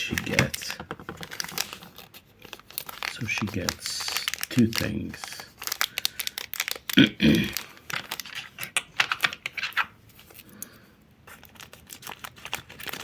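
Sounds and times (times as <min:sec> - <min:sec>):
plastic packaging crinkling: 0:00.0 - 0:10.6, 0:11.2 - 0:13.0.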